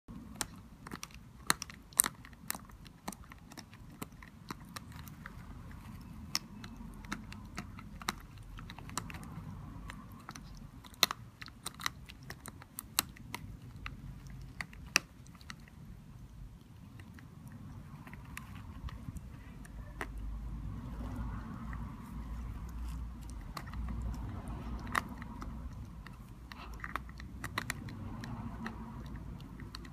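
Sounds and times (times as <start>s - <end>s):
puppy teeth clicking on rubber: 0.1s - 29.9s.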